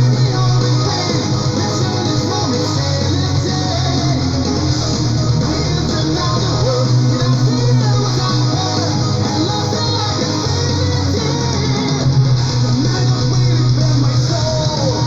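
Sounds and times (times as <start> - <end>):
melodic metal song: 0.0 - 15.0.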